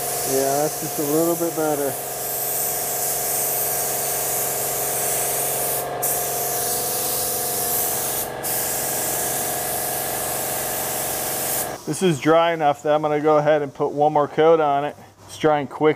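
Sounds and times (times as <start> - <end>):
spray gun hissing: 0.0 - 14.0.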